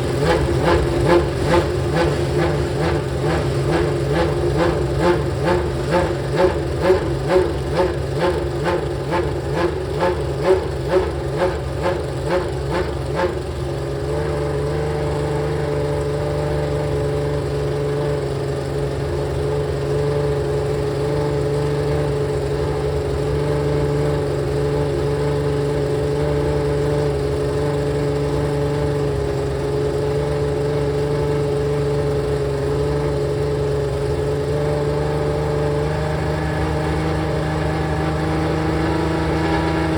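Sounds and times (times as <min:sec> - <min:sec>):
racing car engine revving and idling: 0:00.0 - 0:39.9.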